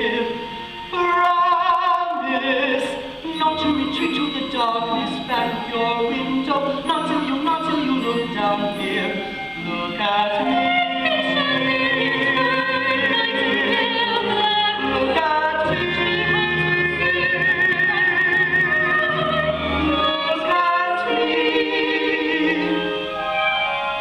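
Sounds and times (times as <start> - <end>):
person singing with vibrato: 0.0 - 23.2
musical accompaniment: 0.0 - 24.0.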